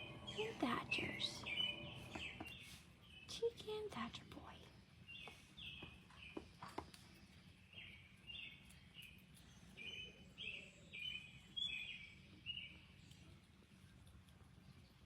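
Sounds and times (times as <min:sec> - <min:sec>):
bird chirping faintly: 0:00.0 - 0:13.1.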